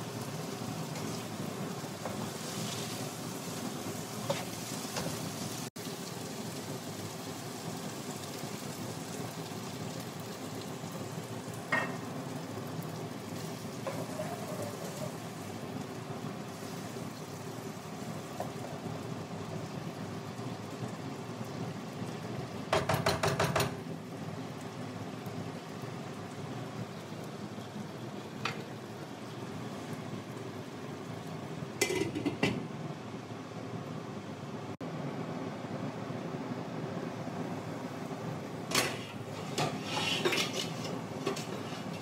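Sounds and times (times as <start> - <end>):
potatoes sizzling in frying pan: 0.0 - 23.0, 23.8 - 32.7, 37.6 - 42.0.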